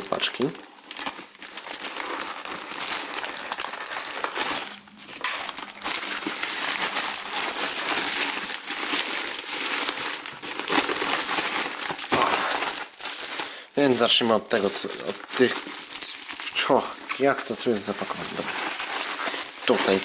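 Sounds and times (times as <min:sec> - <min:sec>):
packaging crinkling: 0:00.0 - 0:20.0.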